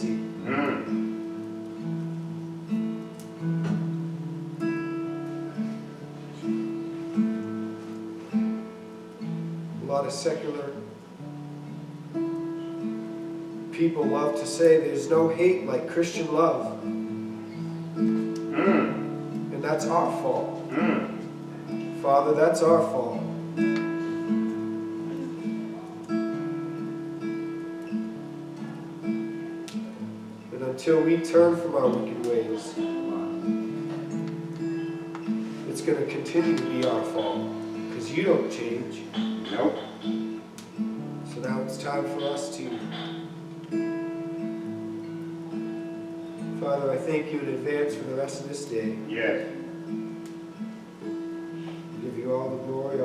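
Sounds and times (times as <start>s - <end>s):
soft music of slow chords: 0.0s - 47.0s
acoustic guitar picking: 0.0s - 53.0s.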